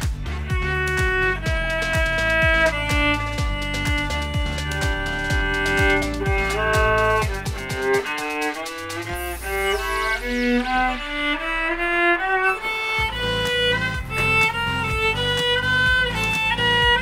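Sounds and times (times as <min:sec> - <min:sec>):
viola melody: 0:00.0 - 0:17.0.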